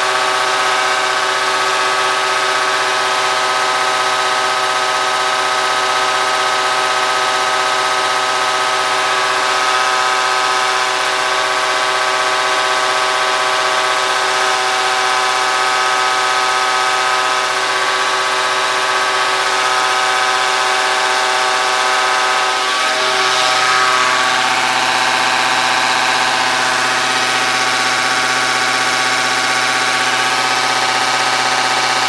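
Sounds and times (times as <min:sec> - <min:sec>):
test bench machine whine: 0:00.0 - 0:32.0.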